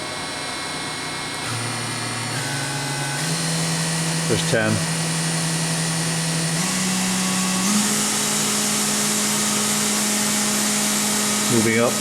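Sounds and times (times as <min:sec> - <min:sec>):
machine spindle whine: 0:00.0 - 0:12.0.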